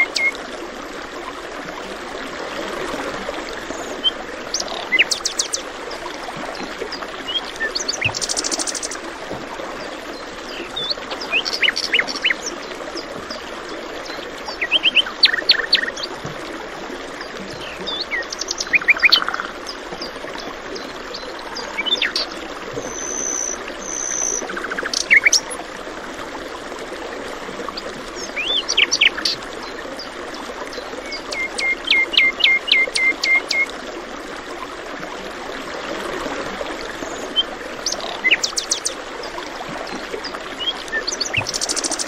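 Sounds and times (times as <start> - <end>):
stream rushing: 0.0 - 42.0.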